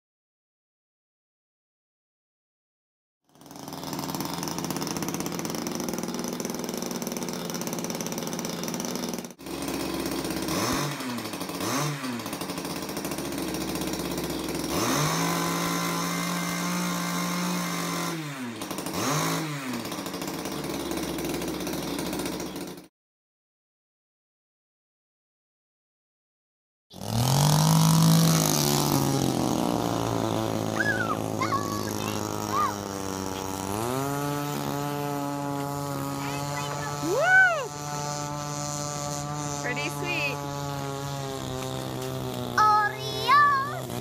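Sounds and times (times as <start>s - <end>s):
two-stroke engine revving: 3.3s - 22.9s, 26.9s - 44.0s.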